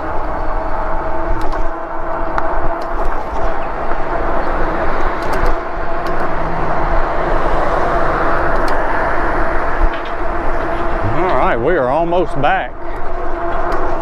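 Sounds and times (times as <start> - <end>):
bike tyre noise: 0.0 - 14.0
steady hum: 0.0 - 14.0
wind rushing over microphone: 0.0 - 14.0.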